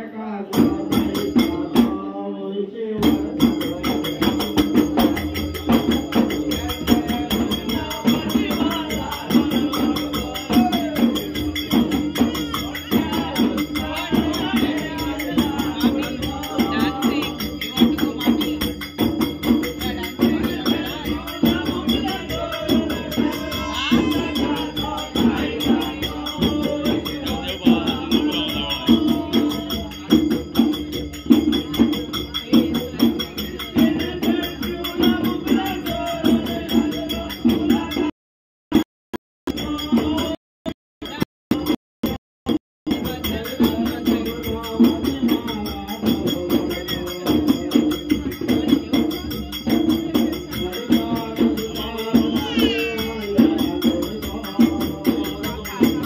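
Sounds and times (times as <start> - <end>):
voices singing: 0.0 - 38.1, 42.9 - 56.0
clay-pot drums fast rhythm: 0.5 - 2.1, 3.0 - 56.0.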